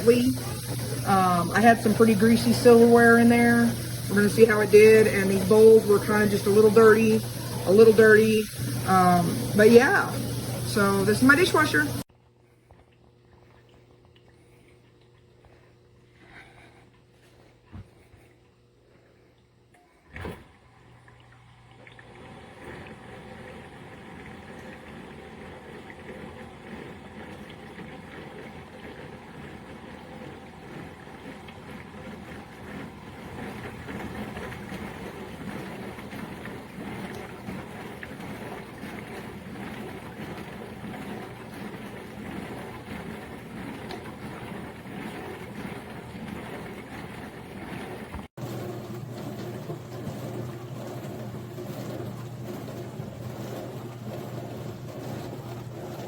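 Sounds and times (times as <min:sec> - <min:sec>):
dishwasher pump whirring: 0:00.0 - 0:12.1, 0:19.7 - 0:56.0
water spraying inside dishwasher: 0:00.0 - 0:12.1, 0:20.1 - 0:56.0.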